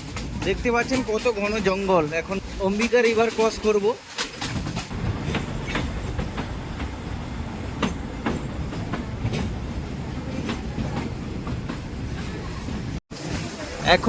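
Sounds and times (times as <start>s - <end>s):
train rumbling: 0.0s - 14.0s
wheels clacking over rails: 0.0s - 14.0s.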